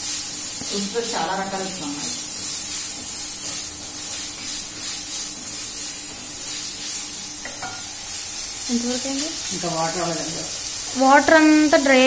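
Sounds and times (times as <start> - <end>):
chicken sizzling in oil: 0.0 - 12.0
spatula stirring in pan: 0.0 - 12.0.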